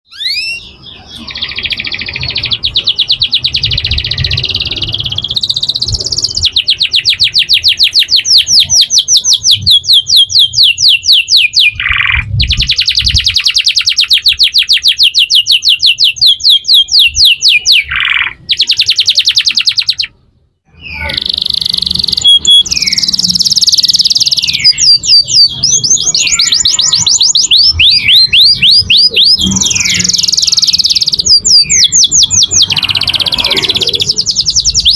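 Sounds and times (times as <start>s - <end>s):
canaries singing: 0.1s - 34.9s.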